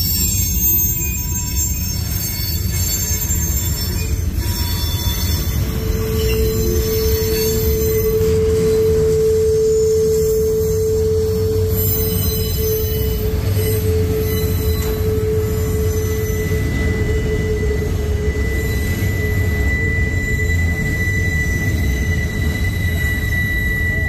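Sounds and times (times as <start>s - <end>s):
freight cars rumbling on rails: 0.0s - 24.0s
wheel squeal: 0.0s - 24.0s.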